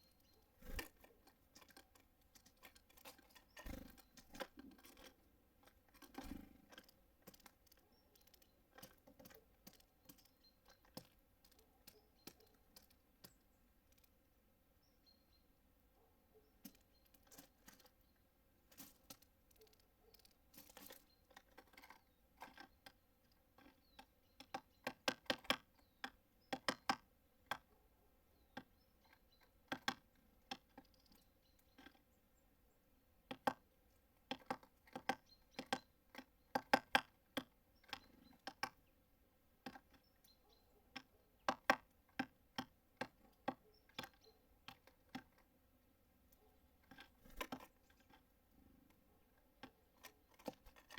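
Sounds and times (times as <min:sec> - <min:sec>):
birds pecking at feeder: 0:00.0 - 0:14.4, 0:16.5 - 0:50.9.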